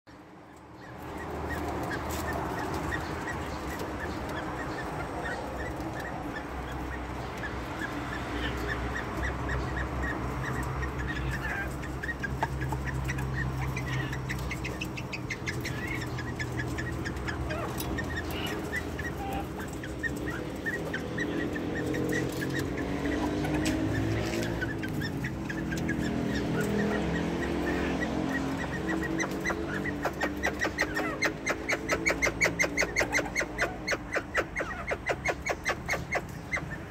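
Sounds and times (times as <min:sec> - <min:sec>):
quail chirping: 0:00.4 - 0:36.9.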